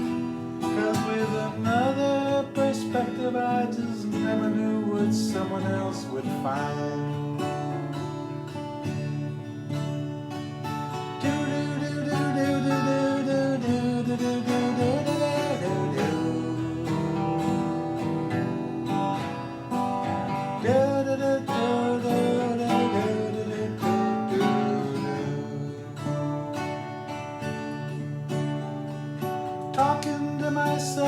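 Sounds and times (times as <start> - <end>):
lead guitar melody bending: 0.0 - 31.0
strummed acoustic guitar: 0.0 - 31.0.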